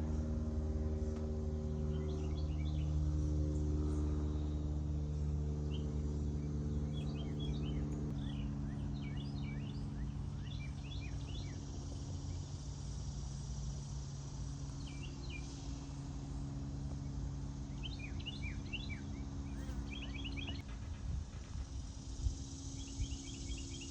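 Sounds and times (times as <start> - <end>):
low machine hum: 0.0 - 23.9
small birds chirping: 1.1 - 23.9.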